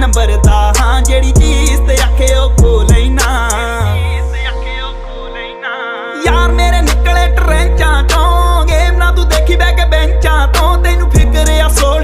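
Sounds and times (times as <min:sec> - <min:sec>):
pop song with heavy bass: 0:00.0 - 0:12.0.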